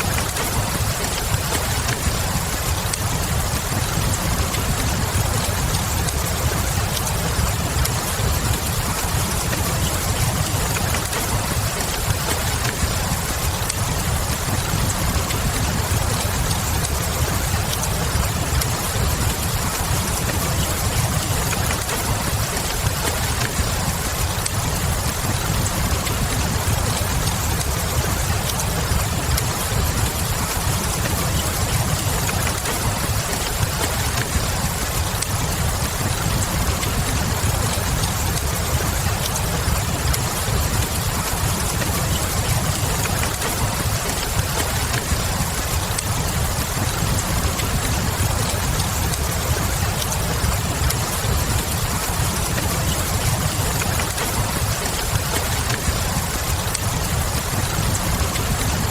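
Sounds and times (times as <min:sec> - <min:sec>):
steady rain: 0:00.0 - 0:58.9
wood fire crackling: 0:00.0 - 0:58.9.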